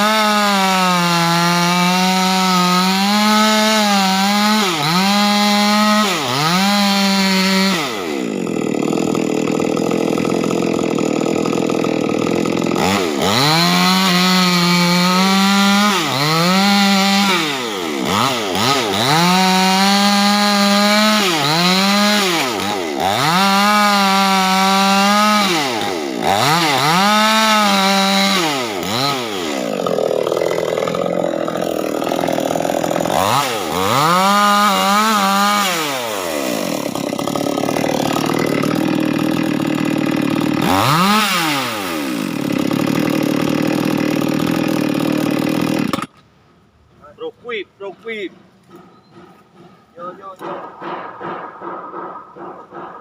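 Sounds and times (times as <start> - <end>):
chainsaw cutting wood: 0.0 - 46.3, 48.2 - 53.0.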